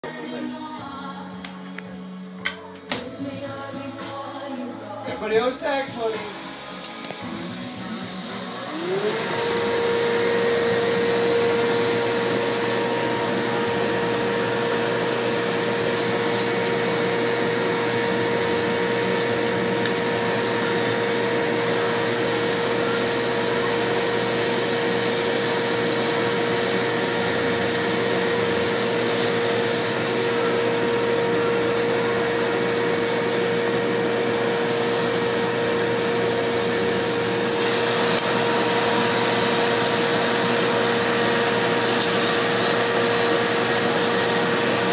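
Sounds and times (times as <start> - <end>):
trimming machine motor whirring: 5.1 - 44.9.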